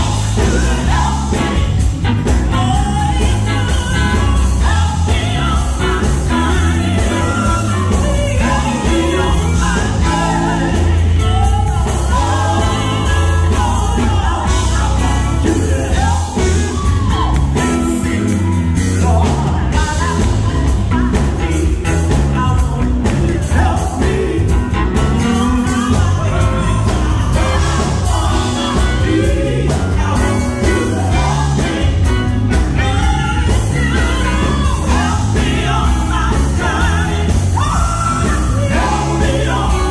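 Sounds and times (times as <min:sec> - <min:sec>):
amplified band: 0:00.0 - 0:39.9
steady bass line: 0:00.0 - 0:39.9
vocal group singing: 0:00.0 - 0:39.9.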